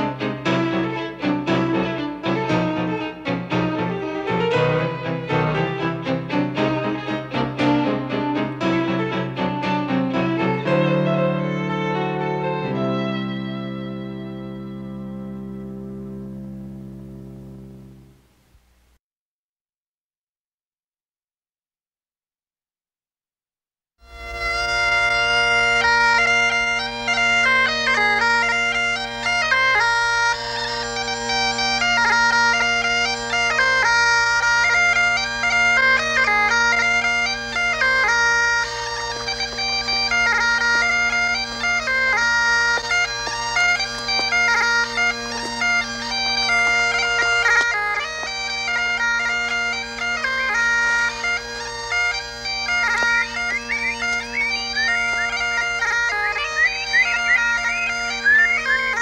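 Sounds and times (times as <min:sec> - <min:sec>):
bagpipe drones: 0:00.0 - 0:18.1, 0:24.0 - 0:59.0
bagpipe chanter melody: 0:00.0 - 0:18.2, 0:24.0 - 0:59.0.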